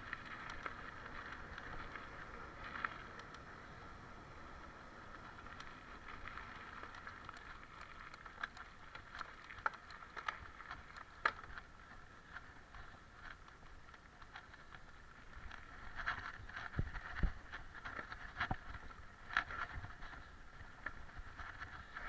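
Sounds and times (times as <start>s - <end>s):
bike clicking and rattling: 0.0s - 22.0s
bike tyres rolling on trail: 0.0s - 22.0s.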